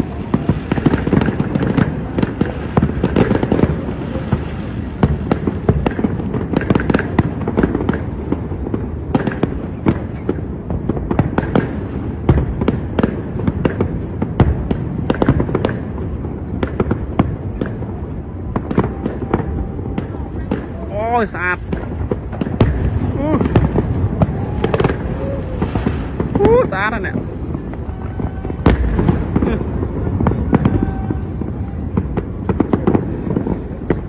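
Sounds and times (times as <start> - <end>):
fireworks cracks and bangs: 0.0 - 34.0.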